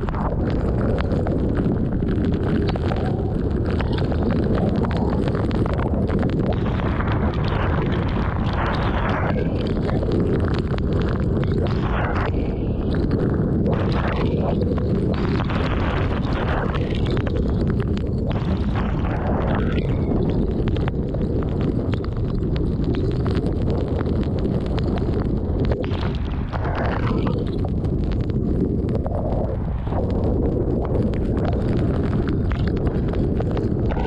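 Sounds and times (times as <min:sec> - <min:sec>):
wind blowing on microphone: 0:00.0 - 0:34.0.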